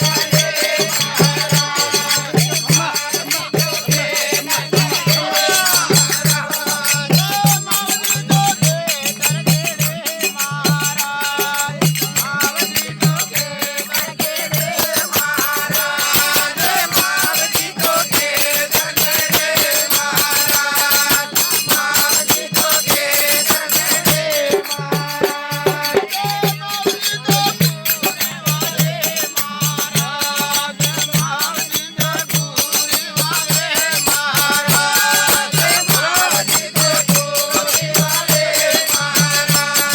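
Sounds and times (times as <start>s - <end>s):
shaken rattling percussion: 0.0s - 39.9s.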